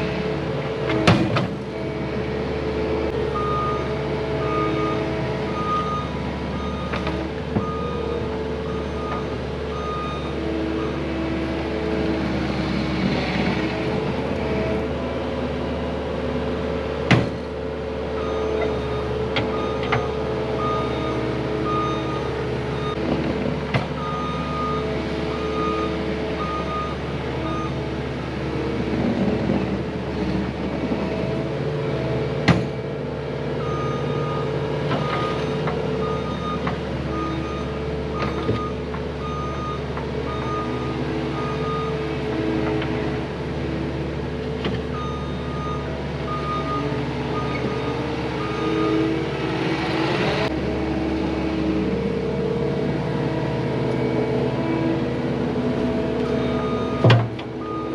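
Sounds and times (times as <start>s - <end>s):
diesel machine running: 0.0s - 57.9s.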